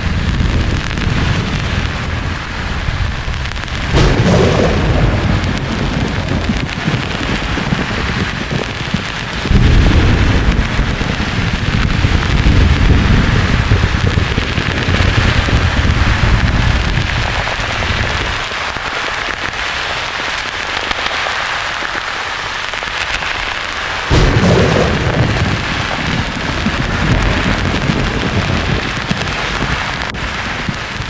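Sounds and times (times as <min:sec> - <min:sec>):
rolling thunder: 0:00.0 - 0:18.4, 0:23.1 - 0:31.0
thunderclap: 0:00.0 - 0:18.5, 0:22.9 - 0:31.0.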